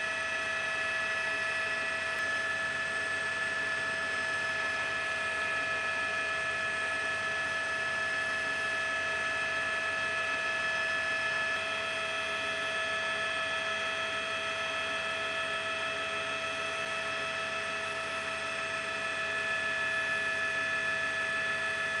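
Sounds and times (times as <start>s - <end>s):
helicopter turbine whine and hum: 0.0s - 22.0s.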